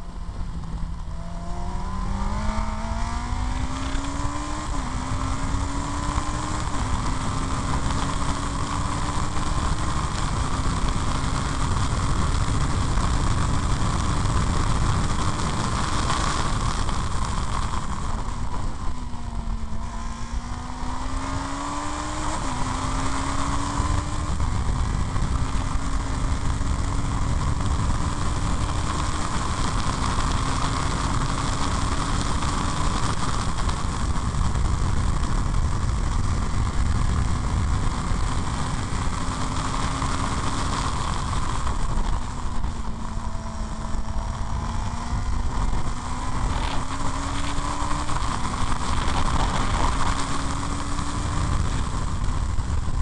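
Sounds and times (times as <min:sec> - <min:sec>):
race car engine with upshifts: 0:00.0 - 0:53.0
wind rush over microphone: 0:00.0 - 0:53.0.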